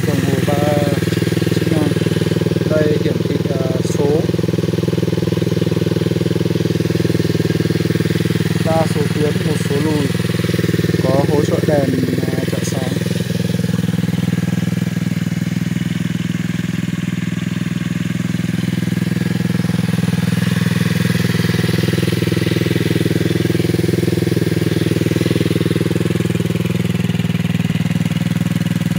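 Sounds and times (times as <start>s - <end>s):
atv engine idling: 0.0s - 28.9s.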